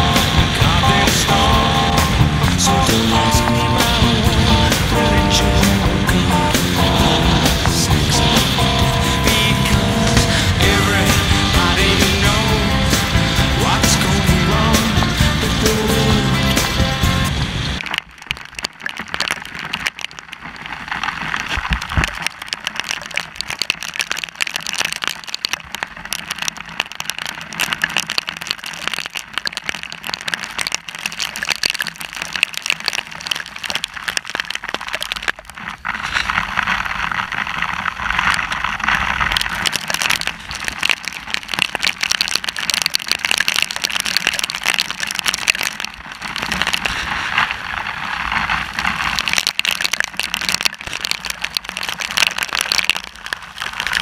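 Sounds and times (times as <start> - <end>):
hail and rain pelting: 0.0 - 54.0.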